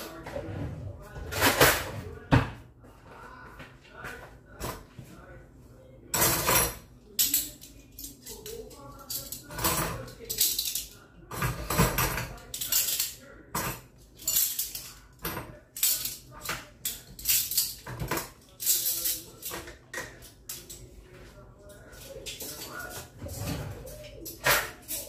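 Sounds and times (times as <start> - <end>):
cutlery and dishes clinking: 1.2 - 2.4, 6.1 - 25.0.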